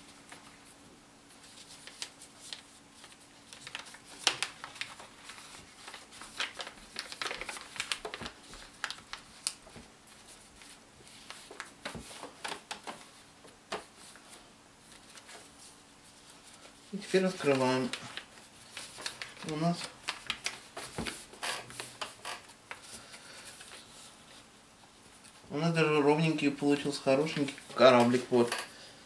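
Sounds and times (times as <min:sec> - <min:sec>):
paper rustling and crackling: 0:00.0 - 0:25.5, 0:26.8 - 0:28.6.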